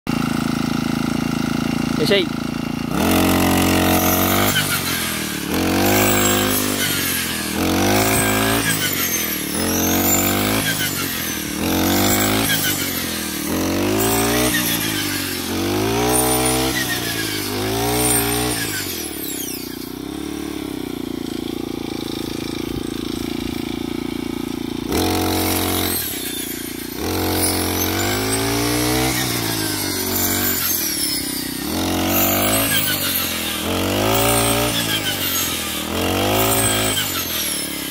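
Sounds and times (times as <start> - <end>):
brush cutter engine revving: 0.1 - 37.9
blade cutting stalks: 2.8 - 37.9.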